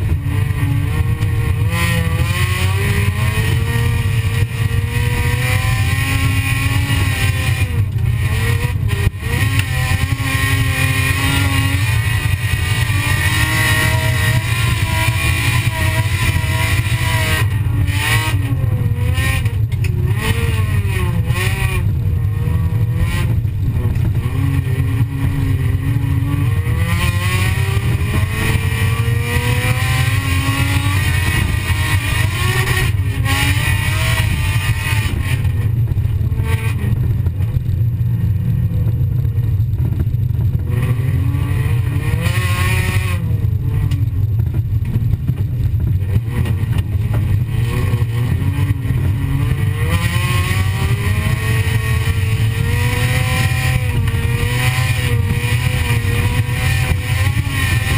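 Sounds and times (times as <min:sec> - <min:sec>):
car engine revving: 0:00.0 - 0:57.9
heavy low rumble: 0:00.0 - 0:57.9.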